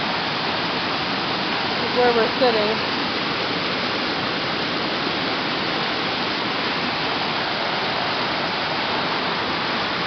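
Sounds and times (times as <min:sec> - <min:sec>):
waterfall rushing over rock: 0:00.0 - 0:10.0.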